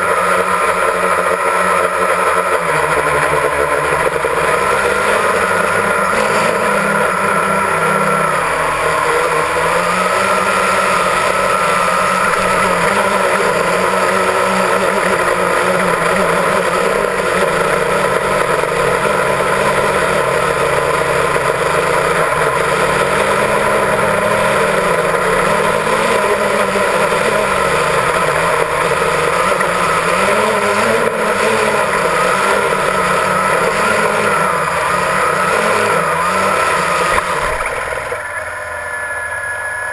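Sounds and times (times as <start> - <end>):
drone motors buzzing whine: 0.0 - 39.9.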